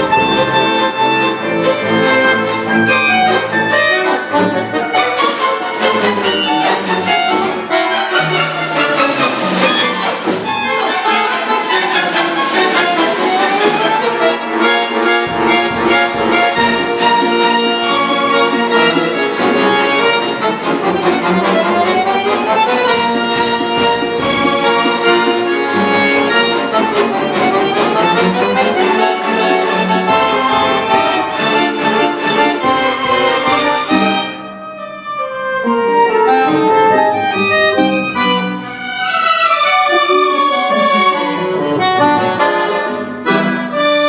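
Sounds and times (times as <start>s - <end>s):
accordion playing runs: 0.0s - 44.0s
chamber orchestra: 0.0s - 44.0s.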